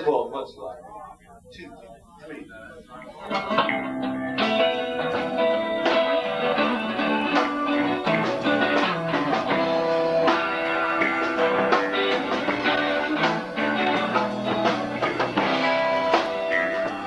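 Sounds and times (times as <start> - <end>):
drums keeping a beat: 2.8 - 17.0
electric guitar: 3.0 - 17.0
bass guitar: 3.2 - 17.0.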